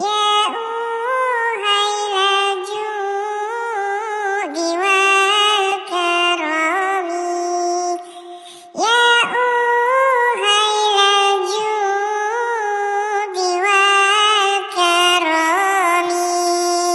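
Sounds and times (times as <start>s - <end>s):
high-pitched synthetic singing voice: 0.0s - 16.9s.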